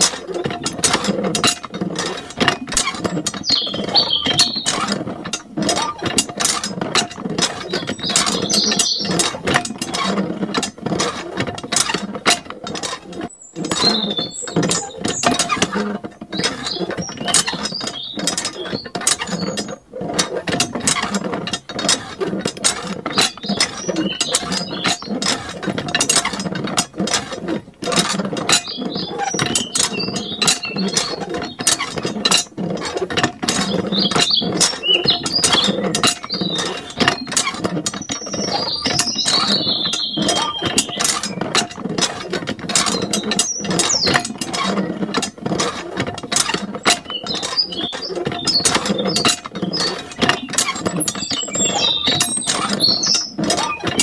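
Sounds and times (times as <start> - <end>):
water pump rattling: 0.0 - 54.0.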